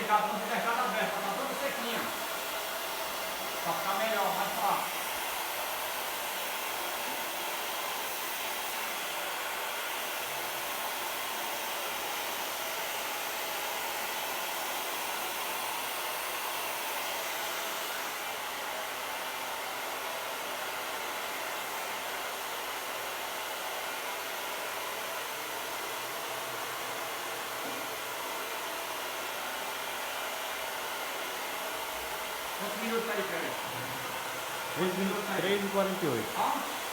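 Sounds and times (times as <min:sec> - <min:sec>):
hair dryer running: 0:00.0 - 0:36.9.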